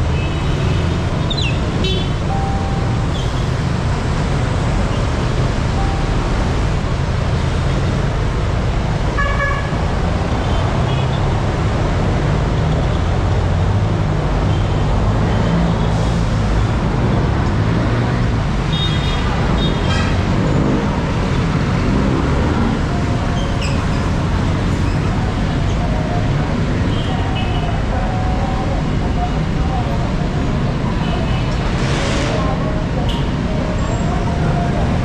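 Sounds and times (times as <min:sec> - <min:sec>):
traffic engines rumbling: 0:00.0 - 0:35.0.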